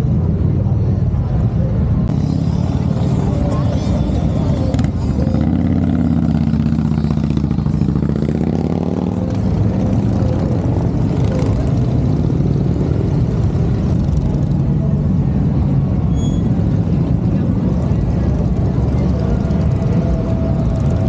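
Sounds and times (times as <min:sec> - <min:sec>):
motorcycle engine accelerating: 0:02.1 - 0:21.0.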